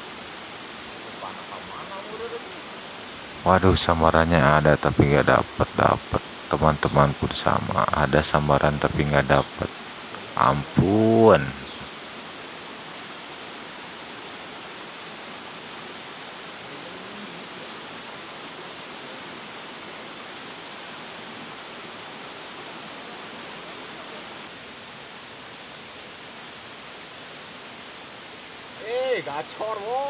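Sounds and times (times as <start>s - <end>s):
faint high whine: 0.0s - 30.0s
flowing stream water: 0.0s - 30.0s.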